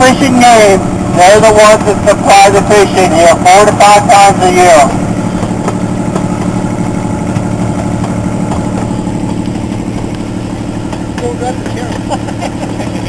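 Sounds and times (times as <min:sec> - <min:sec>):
train engine humming: 0:00.0 - 0:13.0.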